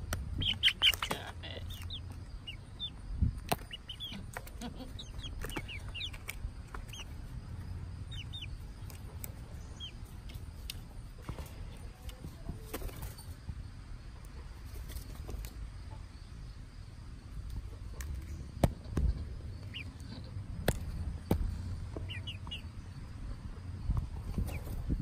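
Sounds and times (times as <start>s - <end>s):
chicks peeping: 0.0s - 16.6s, 17.3s - 25.0s.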